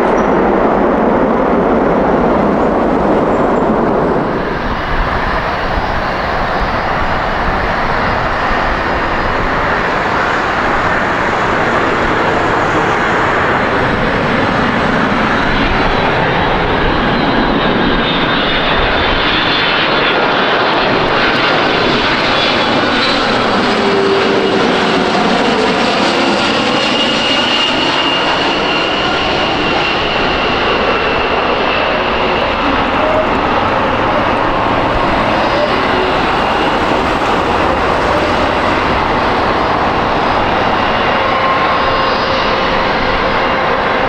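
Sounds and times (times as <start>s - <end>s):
jet airliner passing roar: 0.0s - 44.0s
whining engine tones: 0.0s - 44.0s.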